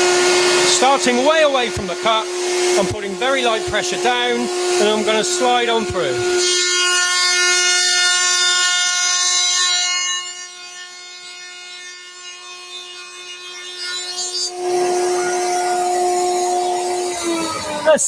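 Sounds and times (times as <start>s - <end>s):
rough cutting noise: 0.0s - 18.0s
router high whine: 0.0s - 18.0s.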